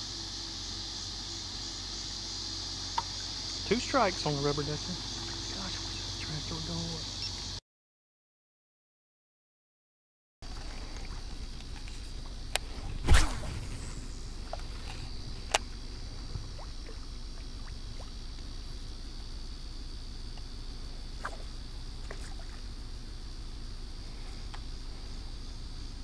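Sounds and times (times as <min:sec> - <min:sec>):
high-pitched insect drone: 0:00.0 - 0:07.6, 0:10.4 - 0:26.0
low pond ambience rumble: 0:00.0 - 0:07.6, 0:10.4 - 0:26.0.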